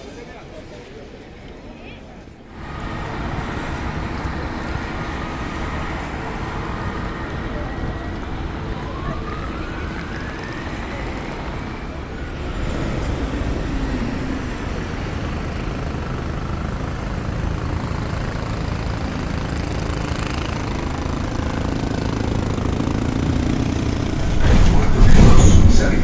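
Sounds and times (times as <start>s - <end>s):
low vehicle rumble: 2.6s - 26.0s.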